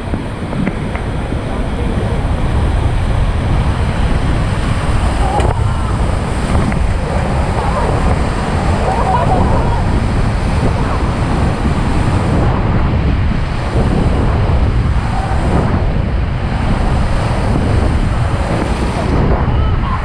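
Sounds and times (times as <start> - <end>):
whitewater rapids rushing: 0.0 - 20.0
wind buffeting microphone: 0.0 - 20.0.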